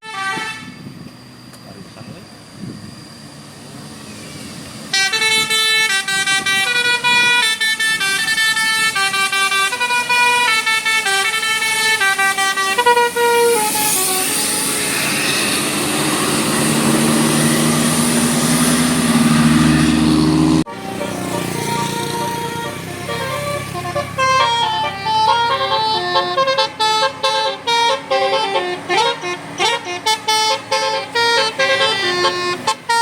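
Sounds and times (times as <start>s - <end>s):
multi-note air horn melody: 0.0s - 0.8s, 4.9s - 17.5s, 18.8s - 33.0s
bus engine: 0.0s - 33.0s.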